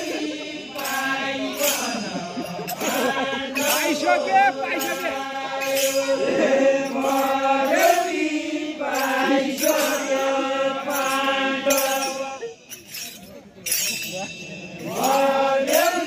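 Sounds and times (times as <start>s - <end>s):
men singing in unison: 0.0s - 12.8s, 14.8s - 16.0s.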